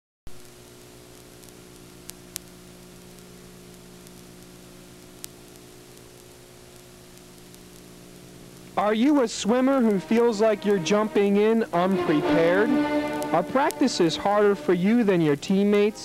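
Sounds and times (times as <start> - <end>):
electrical hum and tape hiss: 0.3 - 16.0.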